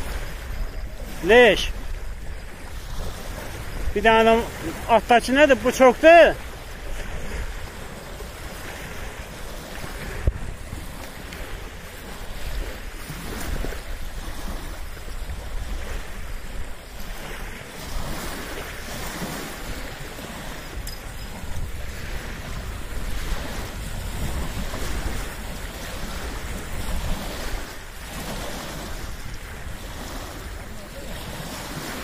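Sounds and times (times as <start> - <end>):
waves lapping on stony shore: 0.0 - 32.0
wind buffeting microphone: 0.0 - 32.0.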